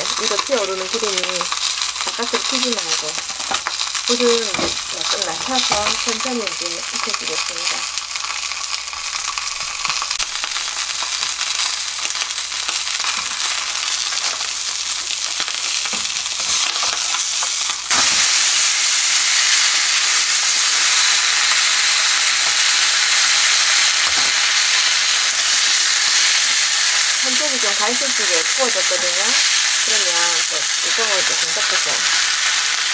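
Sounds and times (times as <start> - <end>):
fish sizzling in a frying pan: 0.0 - 32.9.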